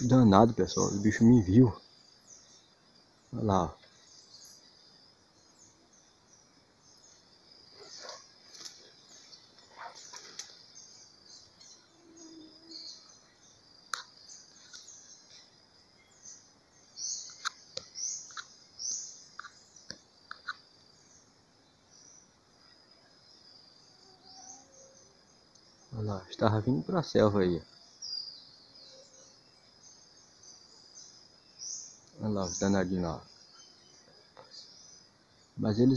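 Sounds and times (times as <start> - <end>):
faint insect hum: 0.0 - 35.9.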